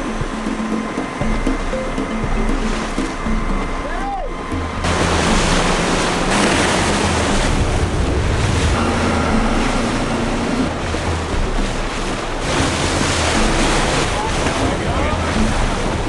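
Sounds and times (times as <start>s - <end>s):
low engine drone: 0.0s - 16.0s
water rushing along hull: 0.0s - 16.0s
wind buffeting microphone: 0.0s - 16.0s.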